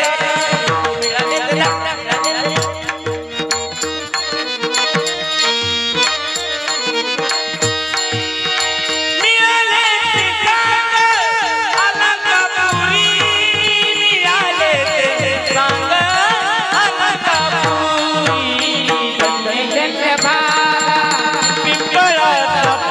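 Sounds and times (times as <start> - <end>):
person singing: 0.0 - 4.8, 9.2 - 22.9
harmonium melody: 0.0 - 22.9.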